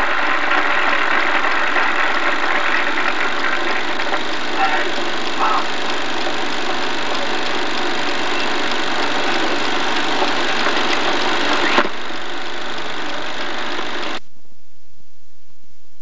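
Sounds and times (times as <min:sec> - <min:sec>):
film projector whirring: 0:00.0 - 0:14.2.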